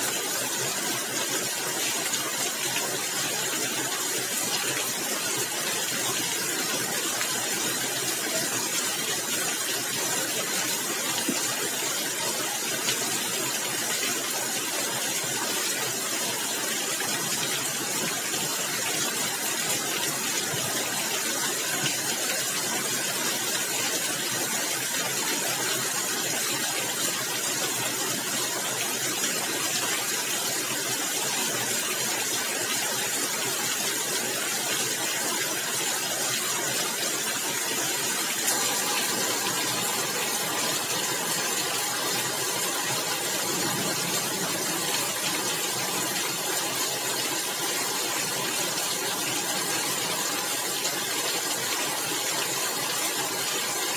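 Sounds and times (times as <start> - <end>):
rain on a tiled roof: 0.0 - 53.9.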